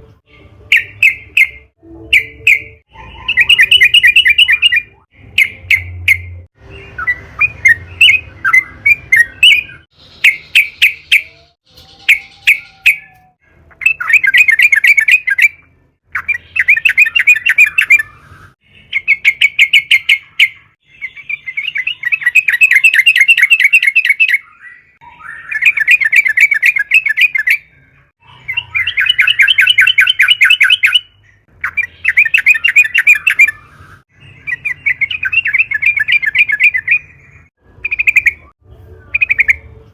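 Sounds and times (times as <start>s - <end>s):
bird chattering song: 0.3s - 39.8s.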